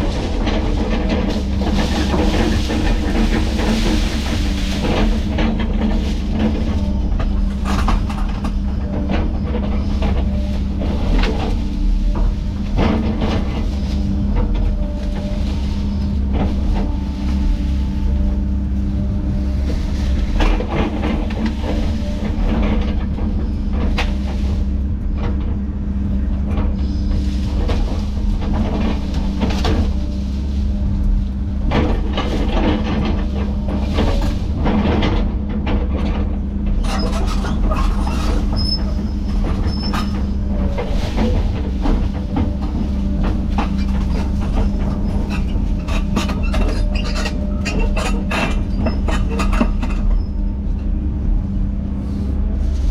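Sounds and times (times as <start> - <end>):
heavy diesel machinery running: 0.0 - 52.9.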